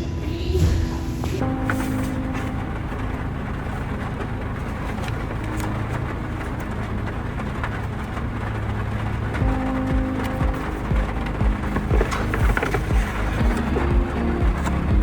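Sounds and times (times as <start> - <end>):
low rumble with hiss: 0.0 - 15.0.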